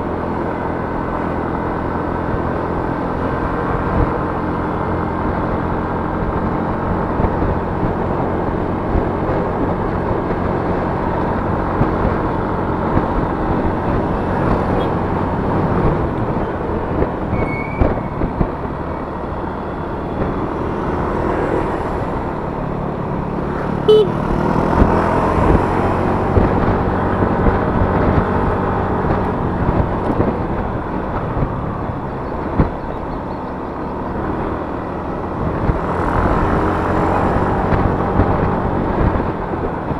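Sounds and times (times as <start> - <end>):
scooter engine running: 0.0 - 39.9
wind and road noise: 0.0 - 39.9.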